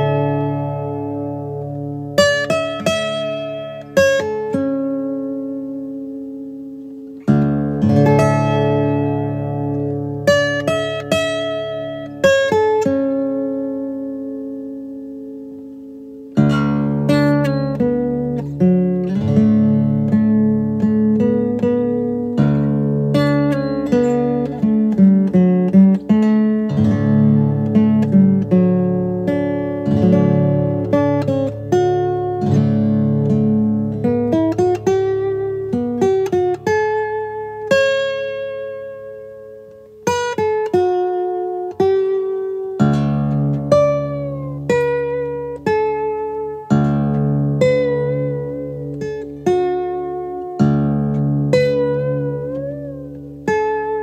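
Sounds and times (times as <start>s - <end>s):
plucked instrumental melody: 0.0s - 54.0s.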